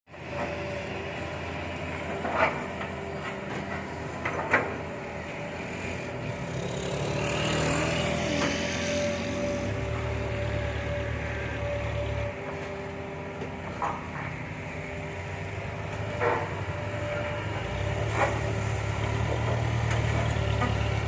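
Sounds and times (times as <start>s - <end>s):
diesel engine running: 0.1s - 21.0s.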